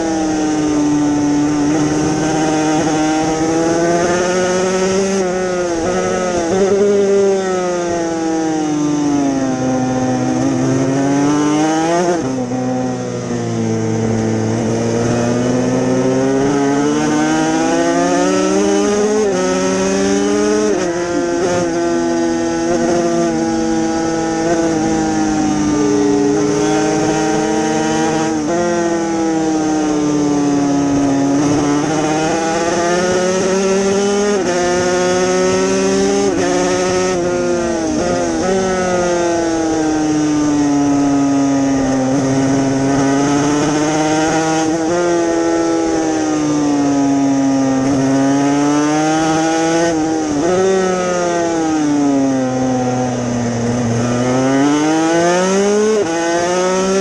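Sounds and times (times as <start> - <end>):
racing motorcycle engine revving: 0.0 - 57.0.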